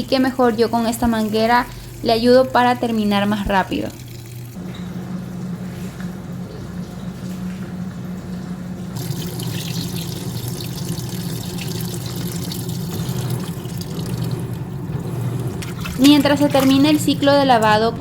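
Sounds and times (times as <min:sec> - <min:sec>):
water pouring into washing machine tub: 0:00.0 - 0:04.6, 0:05.2 - 0:17.9.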